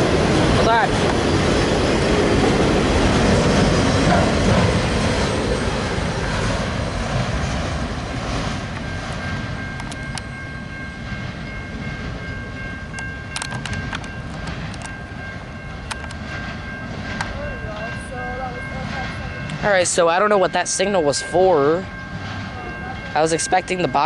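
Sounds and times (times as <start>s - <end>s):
freight train rumbling on rails: 0.0s - 24.0s.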